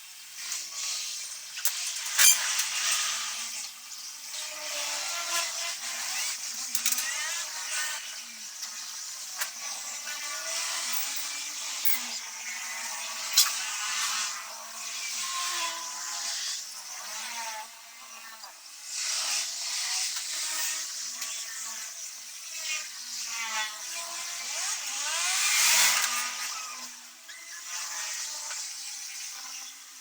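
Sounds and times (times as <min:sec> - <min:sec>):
small electric motor whirring: 0:00.0 - 0:30.0.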